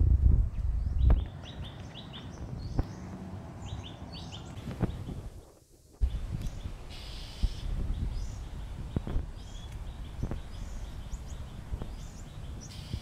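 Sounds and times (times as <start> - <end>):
steady low rumble: 0.0 - 13.0
small birds chirping: 0.5 - 13.0.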